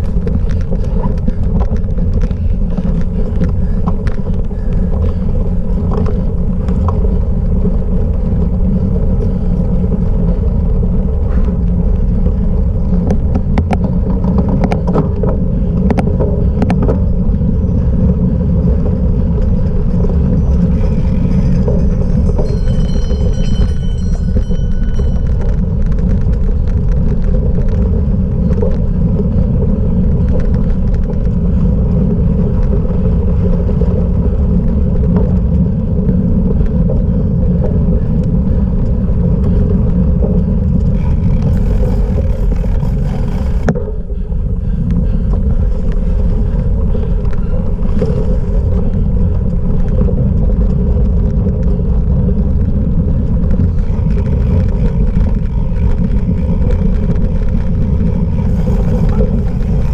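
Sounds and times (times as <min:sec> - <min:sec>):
tyres rolling over rough ground: 0:00.0 - 0:59.9
wind buffeting microphone: 0:00.0 - 0:59.9.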